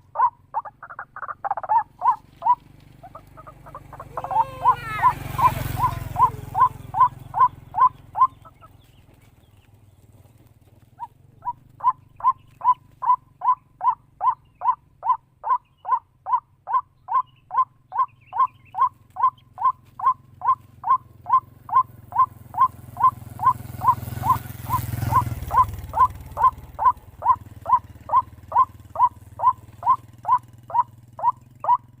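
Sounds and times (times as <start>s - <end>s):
waterhen harsh calls: 0.0s - 8.8s, 11.0s - 31.8s.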